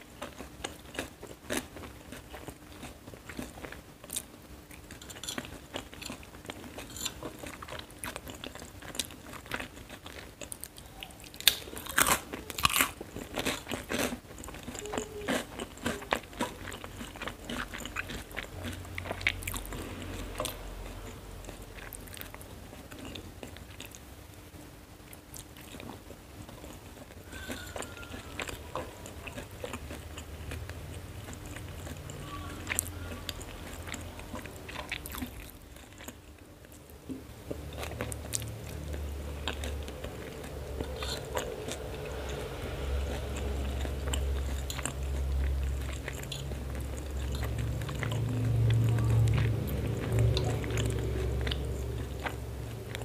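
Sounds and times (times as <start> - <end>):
chewing crunchy noodles: 0.0 - 24.1, 25.1 - 53.0.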